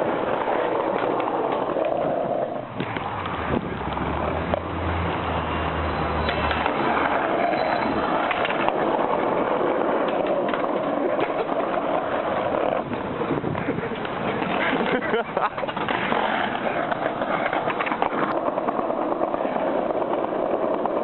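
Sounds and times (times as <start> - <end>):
skateboard clacks: 0.0 - 5.4, 6.2 - 21.0
skateboard wheels rolling on pavement: 0.0 - 21.0.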